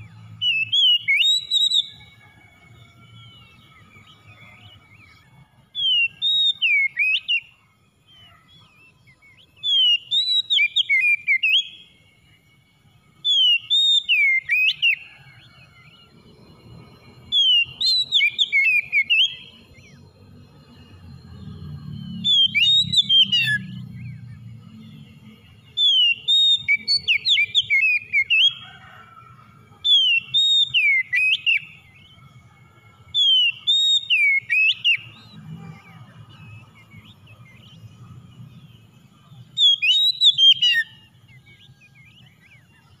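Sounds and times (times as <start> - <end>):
bird singing slurred whistles: 0.0 - 2.2, 3.1 - 29.0, 29.8 - 32.4, 33.0 - 43.0.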